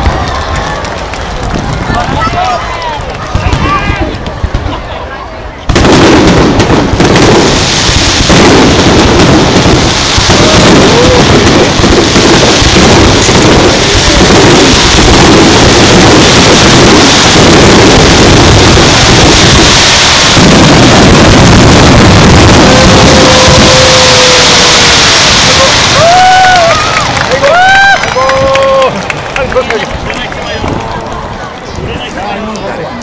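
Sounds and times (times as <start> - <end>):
fireworks bursting: 0.0 - 32.1
firework crackle: 0.0 - 32.6.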